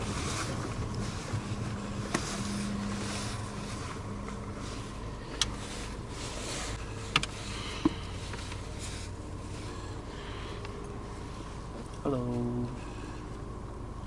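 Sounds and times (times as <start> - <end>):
rumble of engine and tyres: 0.0 - 14.0.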